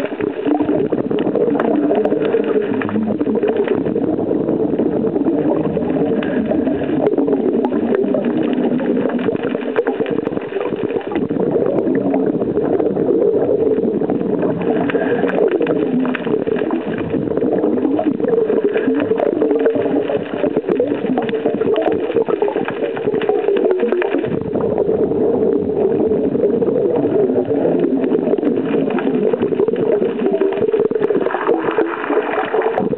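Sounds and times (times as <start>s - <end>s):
sharp underwater clicks: 0.0s - 24.8s, 25.4s - 32.9s
muffled underwater rush: 0.0s - 32.9s.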